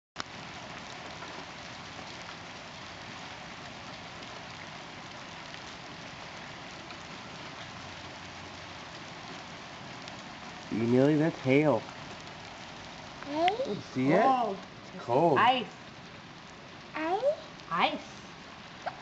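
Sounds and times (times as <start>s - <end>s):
hail and rain falling: 0.2s - 19.0s.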